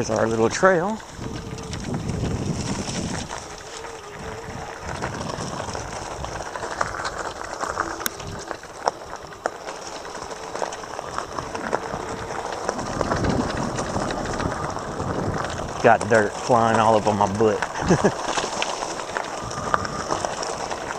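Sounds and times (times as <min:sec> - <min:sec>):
bike tyres on dirt trail: 0:00.0 - 0:20.9.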